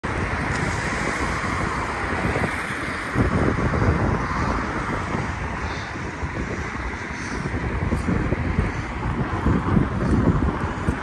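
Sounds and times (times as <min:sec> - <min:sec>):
steady rushing background noise: 0:00.0 - 0:11.0
wind buffeting microphone: 0:00.0 - 0:11.0.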